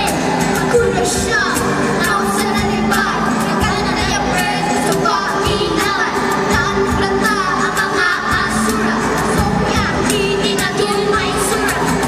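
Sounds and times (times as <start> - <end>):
amplified pop music: 0.0 - 12.0
children singing into microphones: 0.0 - 12.0.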